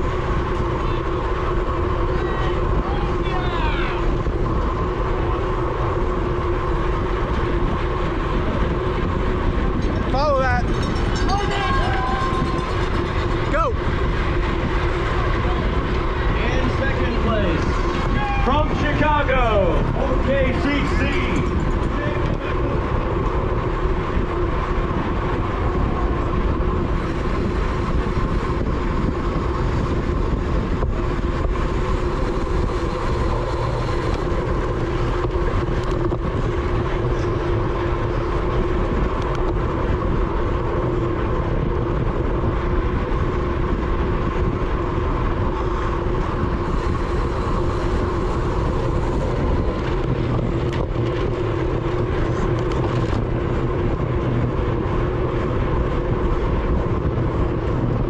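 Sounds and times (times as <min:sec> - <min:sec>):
low rumble: 0:00.0 - 0:58.0
steady hum: 0:00.0 - 0:58.0
wind rush on microphone: 0:00.0 - 0:58.0.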